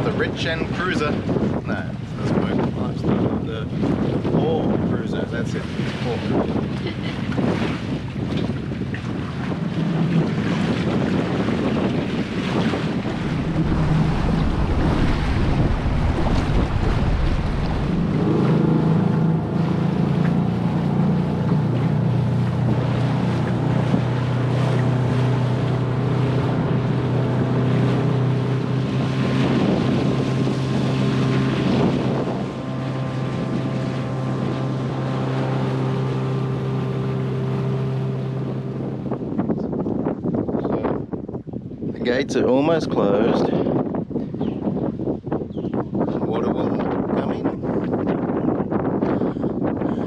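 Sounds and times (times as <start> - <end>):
outboard motor humming: 0.0 - 41.9
choppy water: 0.0 - 50.0
wind buffeting microphone: 0.0 - 50.0.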